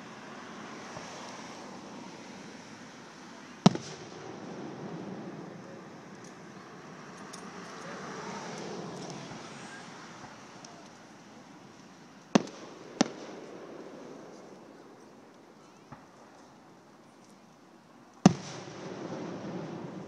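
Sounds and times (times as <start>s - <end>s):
fireworks bangs: 0.8s - 17.0s, 18.2s - 20.0s.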